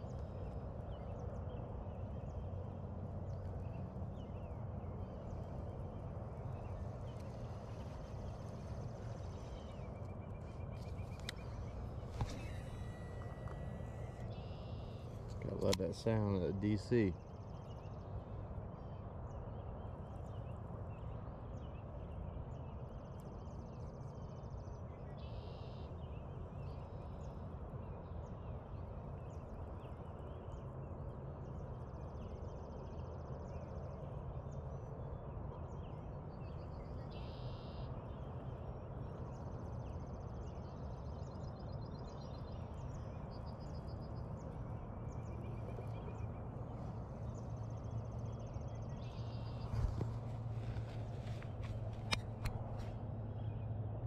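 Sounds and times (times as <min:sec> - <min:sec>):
birds chirping: 0:00.0 - 0:54.0
low outdoor background noise: 0:00.0 - 0:54.0.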